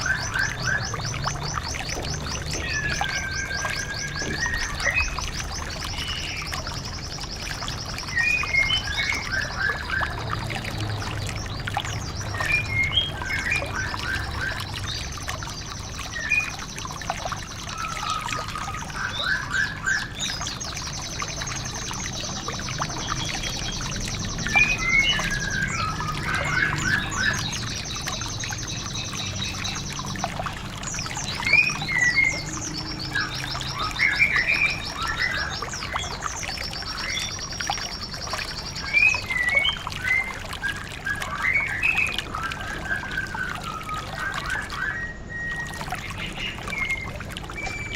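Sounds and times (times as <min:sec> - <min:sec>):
songbirds trilling and chirping: 0:00.0 - 0:47.9
trickle of running water: 0:00.0 - 0:47.9.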